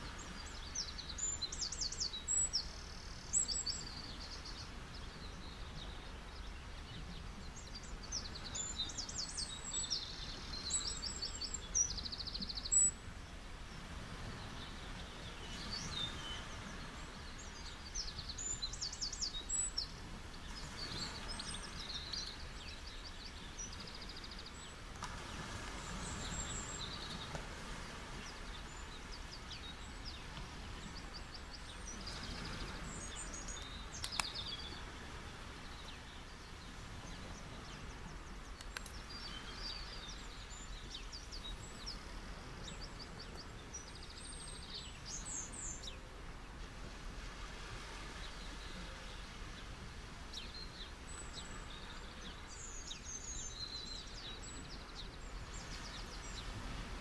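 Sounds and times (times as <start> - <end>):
birds singing: 0.0 - 46.1, 50.3 - 56.9
ocean waves on beach: 0.0 - 57.0.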